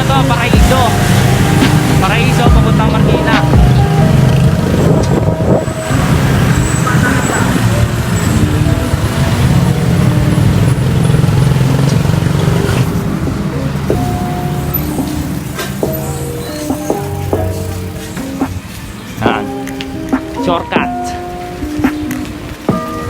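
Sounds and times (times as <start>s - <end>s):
motor vehicle engines rumbling: 0.0s - 23.0s.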